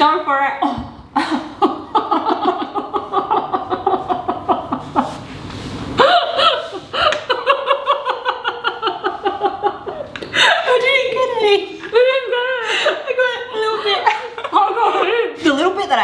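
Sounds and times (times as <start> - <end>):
women laughing: 0.6 - 15.5.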